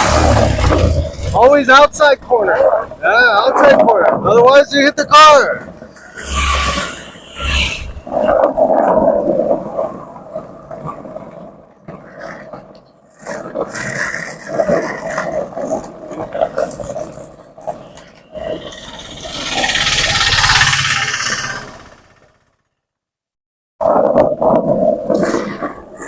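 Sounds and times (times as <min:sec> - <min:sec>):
skateboard wheels rolling on road: 0:00.0 - 0:04.3, 0:05.6 - 0:22.7, 0:23.8 - 0:26.0.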